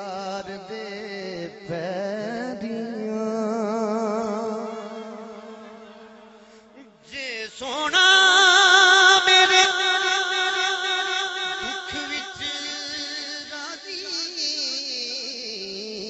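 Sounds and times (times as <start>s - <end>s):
man singing long vibrato note: 0.0s - 16.0s.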